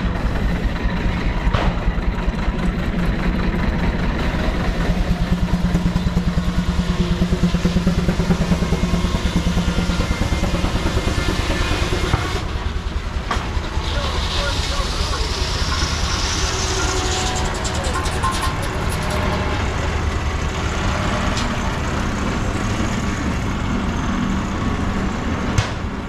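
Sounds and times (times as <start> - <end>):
steam engine beat: 0.0 - 21.1.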